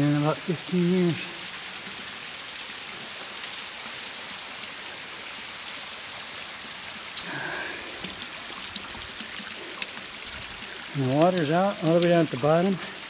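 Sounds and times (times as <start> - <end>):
waterfall splashing into pool: 0.0 - 13.0.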